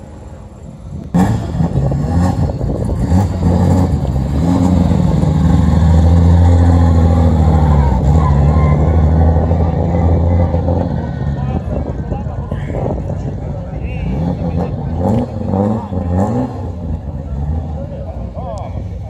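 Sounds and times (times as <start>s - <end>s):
car engine starting and running: 0.0s - 19.0s.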